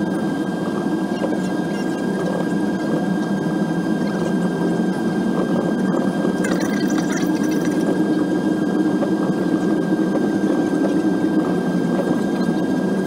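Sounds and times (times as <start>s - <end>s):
jet engine and cabin air rumble: 0.0s - 13.0s
thin steady whine: 0.0s - 13.0s.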